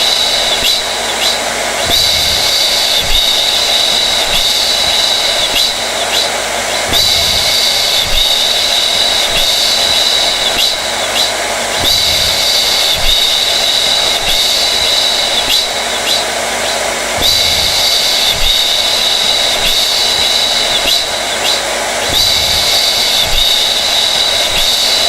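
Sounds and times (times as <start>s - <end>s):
hair dryer running: 0.0s - 25.0s.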